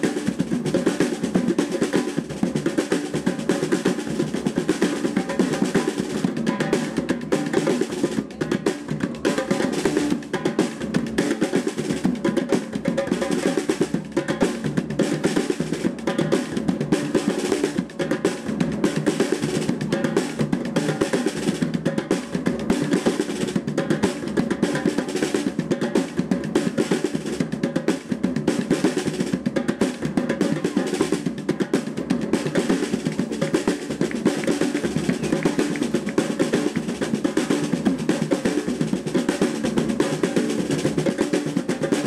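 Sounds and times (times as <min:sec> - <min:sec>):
group of hand drums playing: 0:00.0 - 0:42.0.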